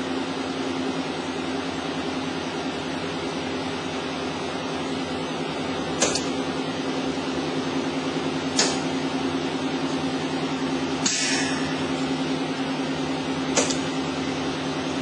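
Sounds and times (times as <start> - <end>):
testing machine hum: 0.0 - 15.0.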